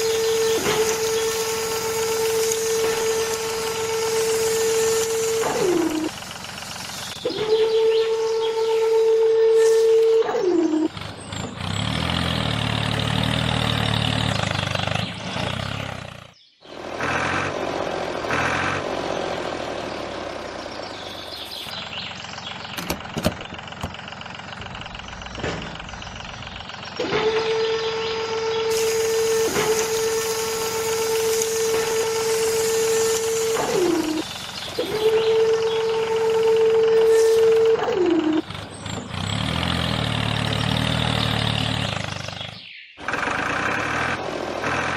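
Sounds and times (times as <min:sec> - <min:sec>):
vehicle engine: 0:00.0 - 0:44.9.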